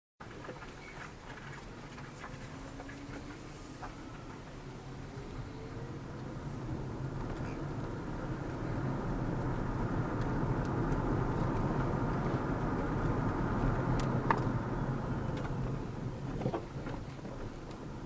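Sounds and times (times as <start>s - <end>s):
car engine and tyre rumble: 0.2s - 18.0s.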